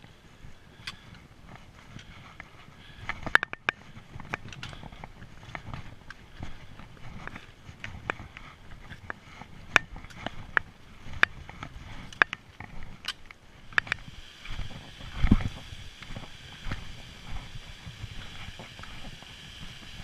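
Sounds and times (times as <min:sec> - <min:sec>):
footsteps on rocky trail: 0:00.0 - 0:20.0
trekking poles clicking on rock: 0:00.0 - 0:20.0.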